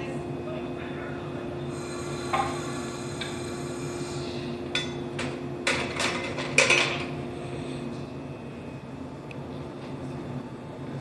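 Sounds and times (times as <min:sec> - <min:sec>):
standing train hum: 0:00.0 - 0:11.0.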